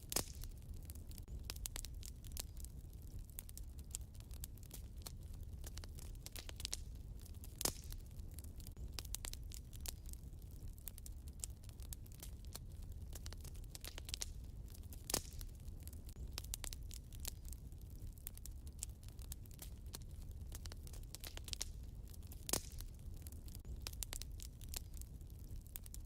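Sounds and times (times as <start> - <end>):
loud fire pops: 0.0 - 26.0
wood fire crackling: 0.0 - 26.0.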